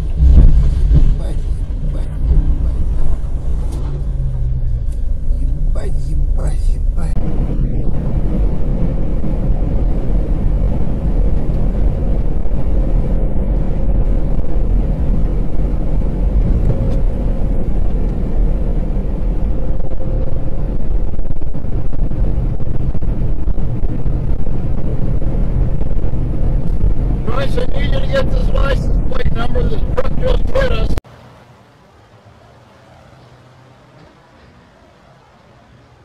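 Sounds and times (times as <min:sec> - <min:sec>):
truck engine and tyres rumbling: 0:00.0 - 0:36.0.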